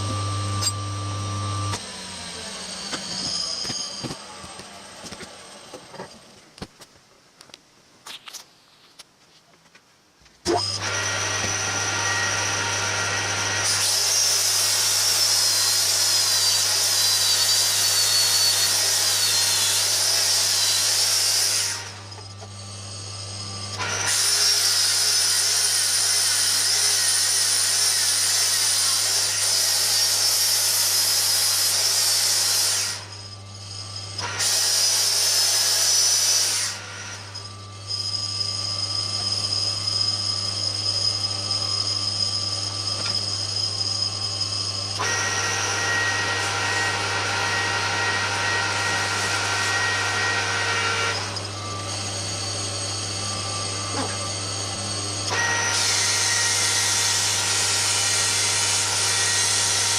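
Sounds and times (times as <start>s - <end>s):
high-pitched metal cutting noise: 0.0s - 6.1s, 10.5s - 59.9s.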